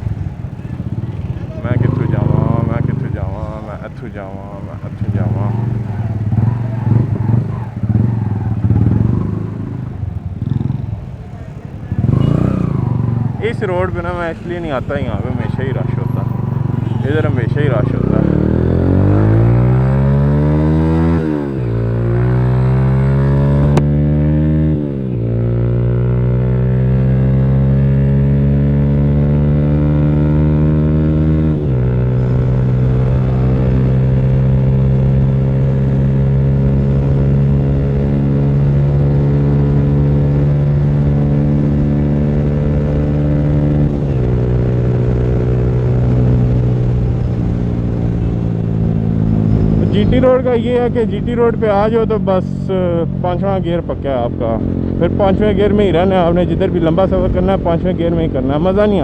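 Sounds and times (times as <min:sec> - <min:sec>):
motorcycle engine accelerating through gears: 0:00.0 - 0:59.0.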